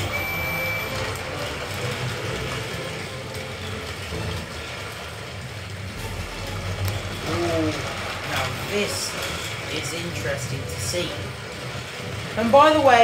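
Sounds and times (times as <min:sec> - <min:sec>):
toy train motors whirring: 0:00.0 - 0:13.0.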